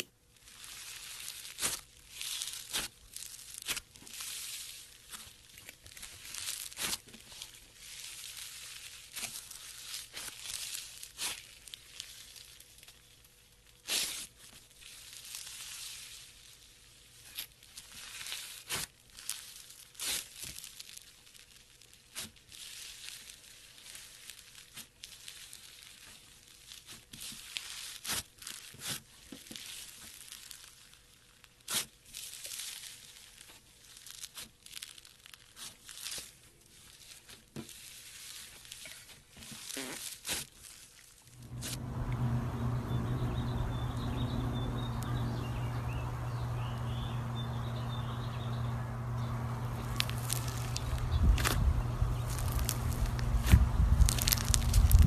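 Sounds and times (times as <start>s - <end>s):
slime crackling and popping: 0.0s - 41.8s, 49.7s - 55.0s.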